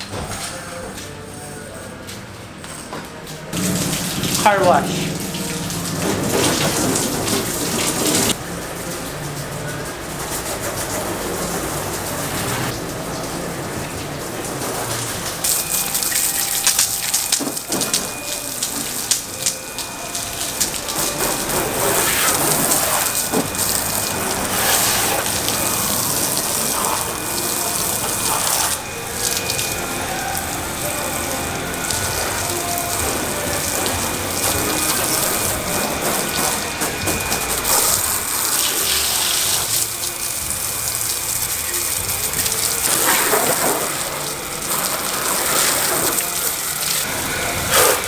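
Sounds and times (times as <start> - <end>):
running water splashing: 3.5 - 48.0.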